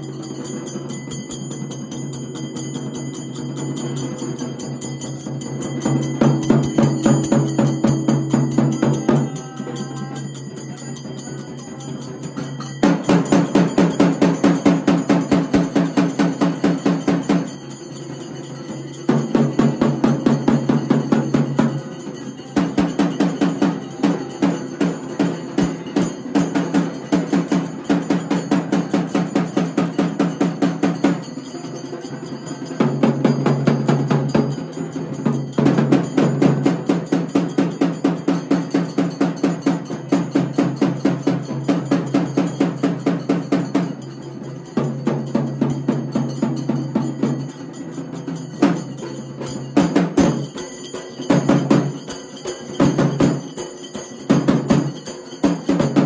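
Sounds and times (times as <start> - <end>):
drums beating fast rhythm: 0.0 - 56.0.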